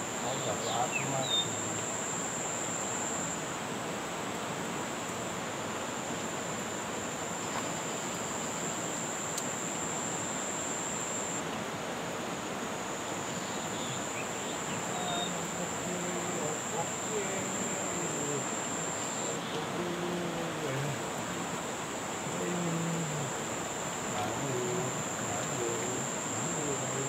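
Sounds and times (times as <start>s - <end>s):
insect high-pitched trill: 0.0s - 3.6s, 7.1s - 11.4s, 12.8s - 27.0s
flowing river water: 3.4s - 27.0s.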